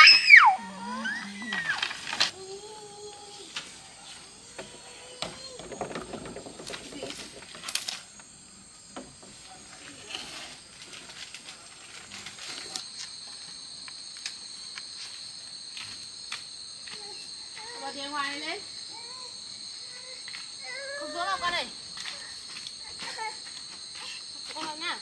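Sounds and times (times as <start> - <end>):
insect high-pitched trill: 0.0 - 25.0.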